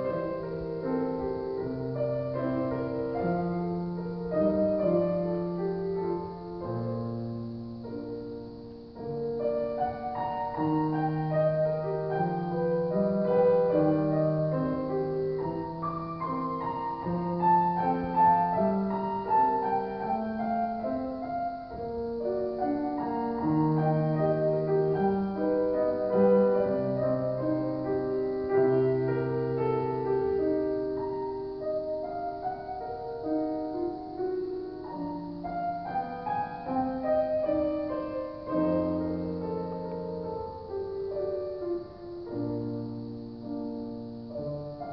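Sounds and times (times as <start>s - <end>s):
solo grand piano piece: 0.0s - 44.9s.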